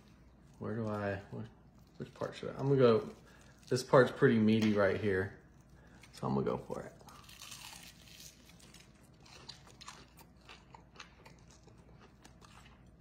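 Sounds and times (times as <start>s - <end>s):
person chewing crispy food: 0.0s - 13.0s.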